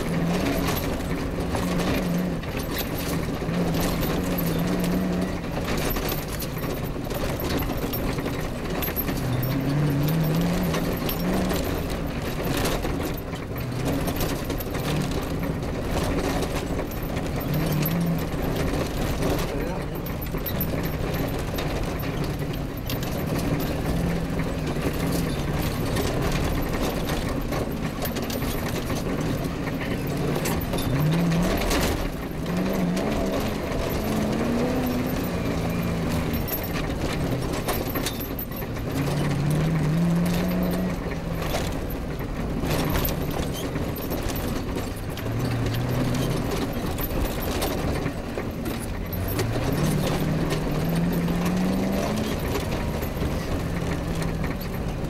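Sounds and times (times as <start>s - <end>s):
rally car engine revving: 0.0s - 55.0s
vehicle rattling on rough track: 0.0s - 55.0s.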